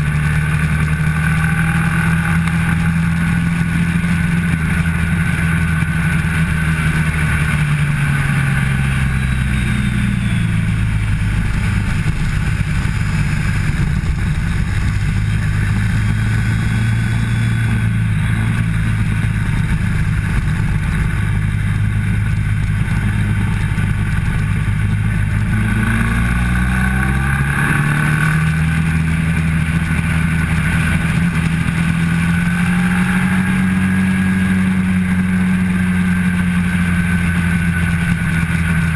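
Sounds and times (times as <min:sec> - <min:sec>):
motorcycle engine: 0:00.0 - 0:38.9
wind rush over microphone: 0:01.0 - 0:36.6.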